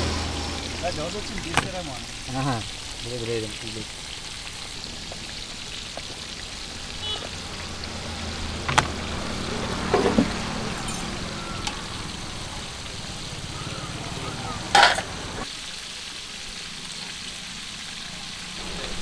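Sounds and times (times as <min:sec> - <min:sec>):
oil sizzling while deep-frying: 0:00.0 - 0:19.0.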